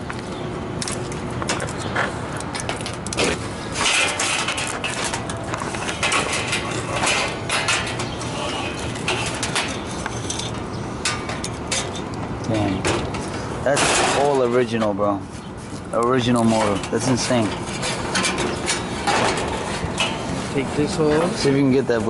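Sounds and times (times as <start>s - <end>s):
tools scraping and knocking metal: 1.4s - 14.9s, 15.7s - 21.6s.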